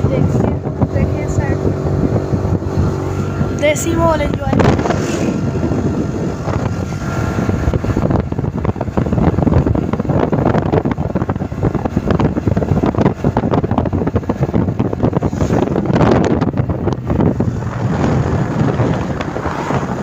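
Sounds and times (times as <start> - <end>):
motorbike engine: 0.0 - 20.0
road noise: 0.0 - 20.0
wind buffeting microphone: 0.0 - 20.0.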